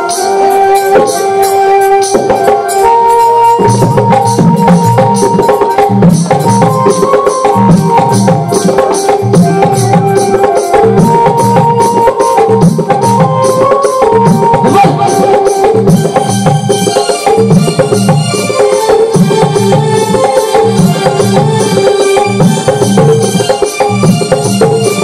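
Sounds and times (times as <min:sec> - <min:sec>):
keyboard melody: 0:00.0 - 0:25.0
quick high beat: 0:01.0 - 0:25.0.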